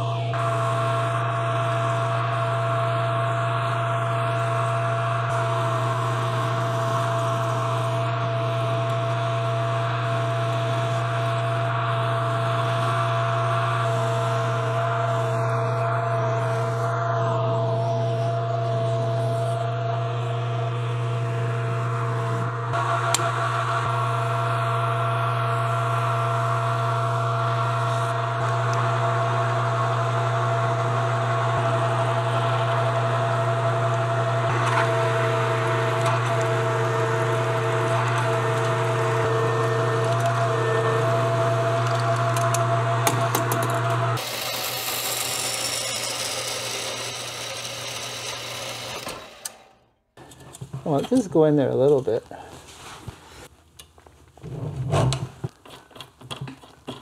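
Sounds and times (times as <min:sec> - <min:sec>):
power tool motor humming: 0:00.0 - 0:20.3, 0:20.9 - 0:49.8.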